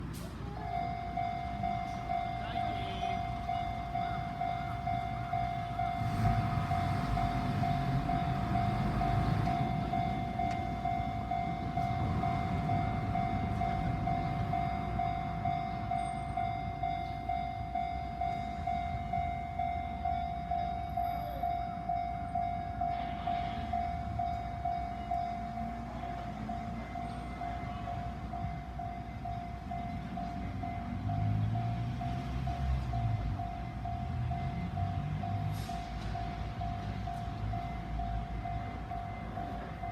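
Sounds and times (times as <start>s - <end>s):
level crossing warning bell: 0.0s - 39.9s
train rumbling over crossing: 0.0s - 39.9s.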